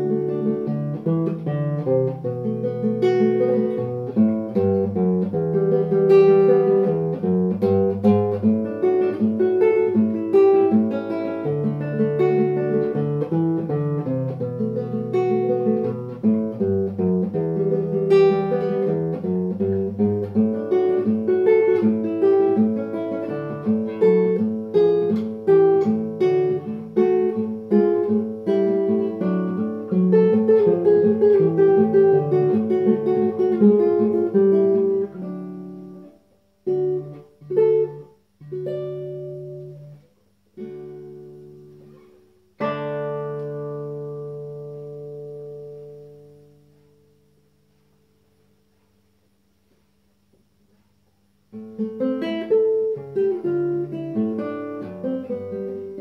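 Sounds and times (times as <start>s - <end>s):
classical guitar fingerstyle: 0.0s - 49.9s, 50.7s - 56.0s.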